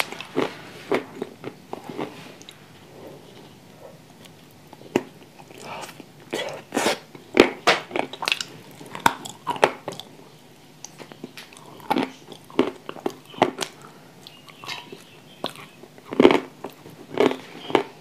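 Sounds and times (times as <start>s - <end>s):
quiet chewing: 0.0s - 18.0s.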